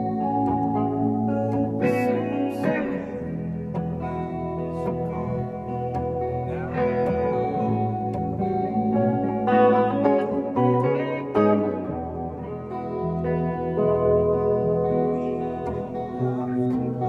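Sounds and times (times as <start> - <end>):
electric guitars: 0.0 - 17.0
keyboard chords: 0.0 - 17.0.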